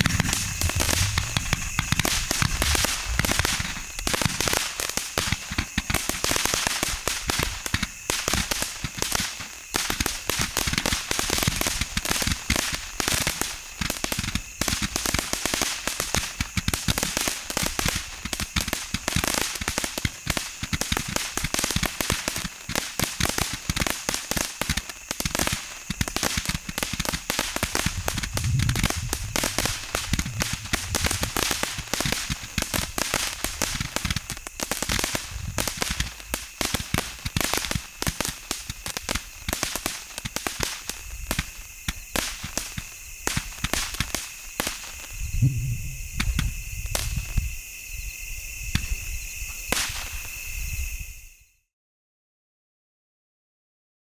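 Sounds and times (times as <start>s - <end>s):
roman candle firing rapid pops: 0.0s - 45.1s.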